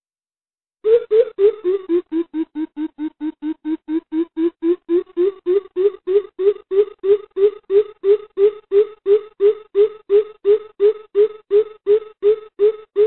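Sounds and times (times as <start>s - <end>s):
bird deep hooting calls: 0.9s - 13.0s.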